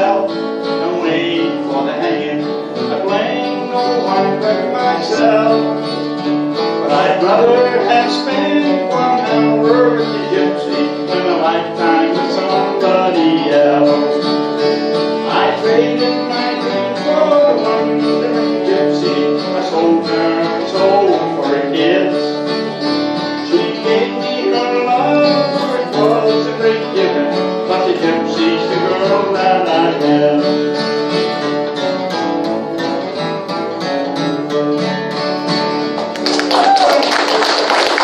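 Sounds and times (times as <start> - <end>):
man singing: 0.0 - 31.6
strummed acoustic guitar: 0.0 - 36.5
second guitar: 0.0 - 38.0.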